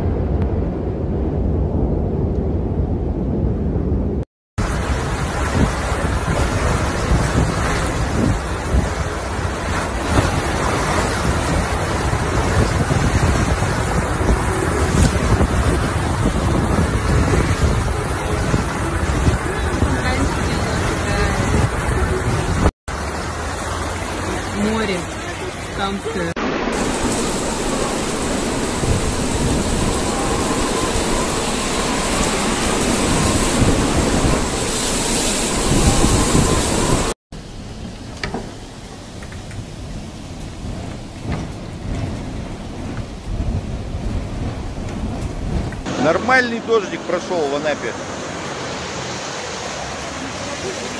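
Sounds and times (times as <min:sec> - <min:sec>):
wind buffeting microphone: 0:00.0 - 0:22.7, 0:26.4 - 0:46.0
floodwater rushing: 0:04.6 - 0:50.9
heavy rain: 0:04.6 - 0:50.9.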